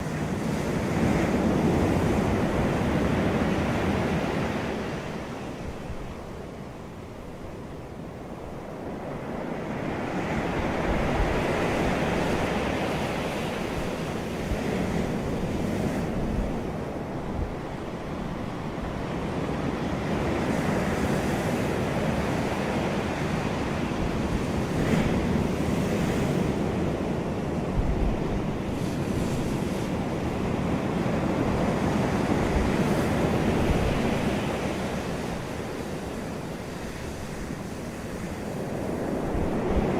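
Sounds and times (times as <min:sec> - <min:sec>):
ocean surf washing ashore: 0:00.0 - 0:39.9
wind rumble on microphone: 0:00.0 - 0:39.9.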